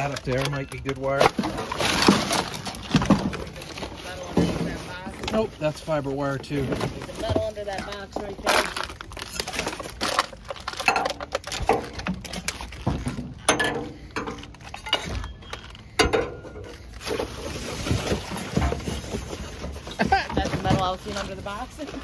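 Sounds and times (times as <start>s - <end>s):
debris knocking and clattering: 0.0s - 5.8s, 6.4s - 22.0s
paper bags rustling: 0.0s - 16.0s, 16.6s - 22.0s.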